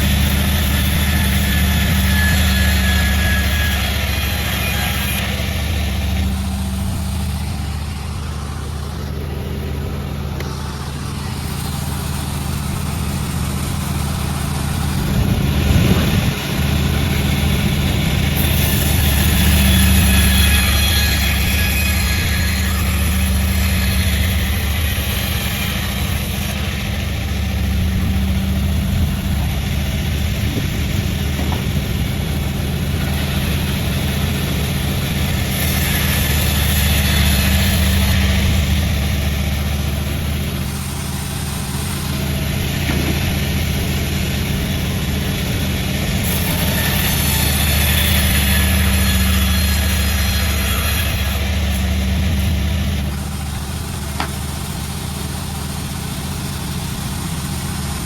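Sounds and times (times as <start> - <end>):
engine drone: 0.0 - 58.0
saw hissing through wood: 0.0 - 58.0.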